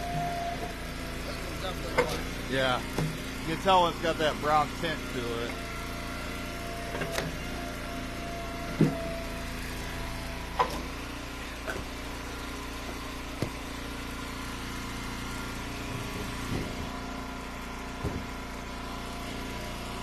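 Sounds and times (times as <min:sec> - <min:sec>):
wood splitter engine running: 0:00.0 - 0:20.0.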